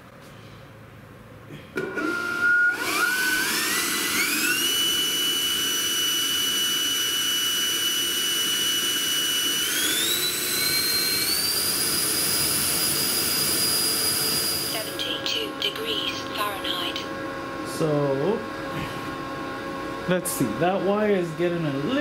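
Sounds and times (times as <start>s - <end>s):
electric ducted fan whining: 0.0s - 22.0s.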